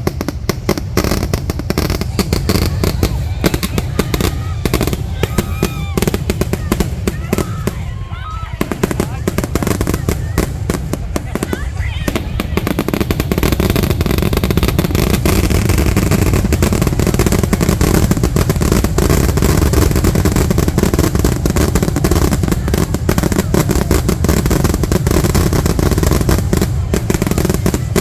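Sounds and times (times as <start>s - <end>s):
fireworks booming and crackling: 0.0s - 28.0s.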